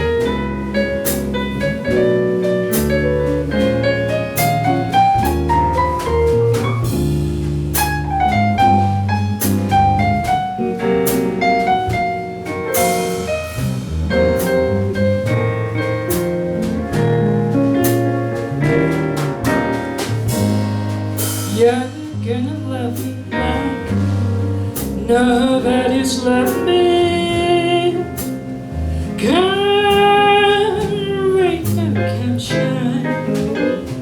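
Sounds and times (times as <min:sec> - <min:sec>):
bass: 0:00.0 - 0:34.0
piano melody: 0:00.0 - 0:34.0.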